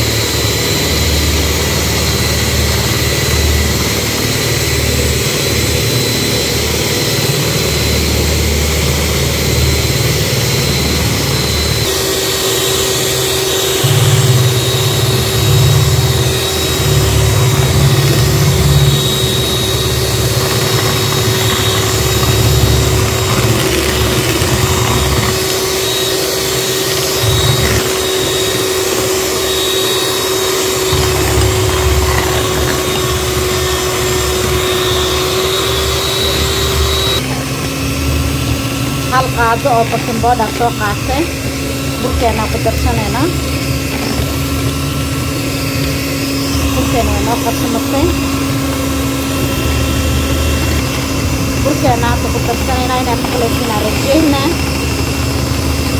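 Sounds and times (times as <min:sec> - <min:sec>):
electric hand mixer whining: 0:00.0 - 0:55.9.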